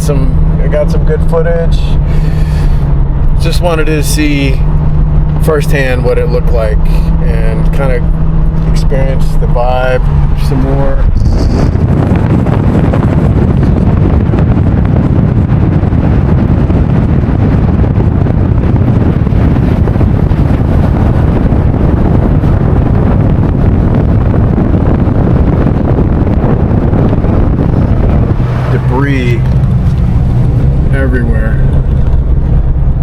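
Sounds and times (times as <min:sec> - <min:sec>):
vehicle road rumble: 0:00.0 - 0:33.0
wind buffeting microphone: 0:00.0 - 0:33.0.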